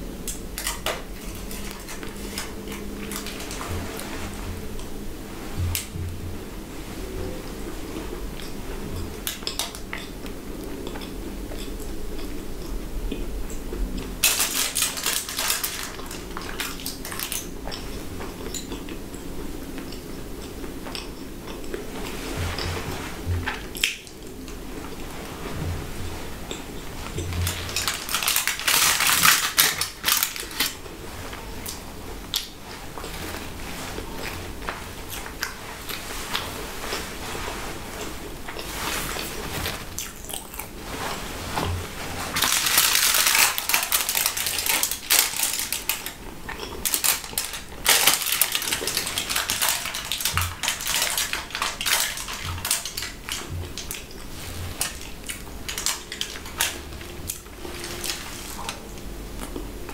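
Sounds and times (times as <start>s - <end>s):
aluminium foil crinkling: 0.0s - 12.8s, 13.5s - 20.1s, 20.9s - 59.9s.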